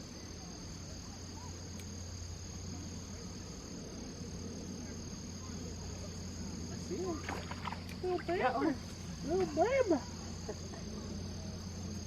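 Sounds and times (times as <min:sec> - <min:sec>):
high-pitched insect trill: 0:00.0 - 0:12.0
low steady hum: 0:00.0 - 0:12.0.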